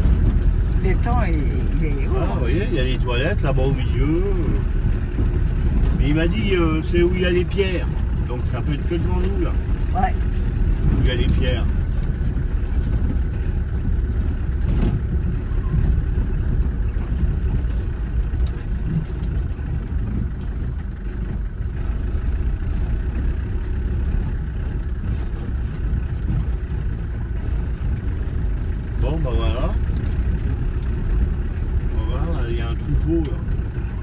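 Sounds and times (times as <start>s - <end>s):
car engine and tyres rumbling: 0.0s - 34.0s.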